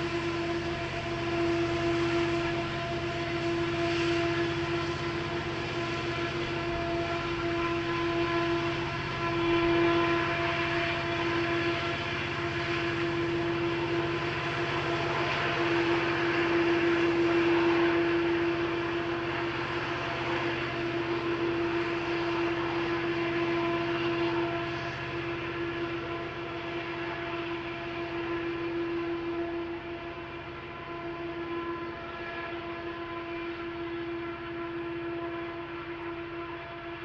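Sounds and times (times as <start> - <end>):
locomotive engines droning: 0.0 - 37.0.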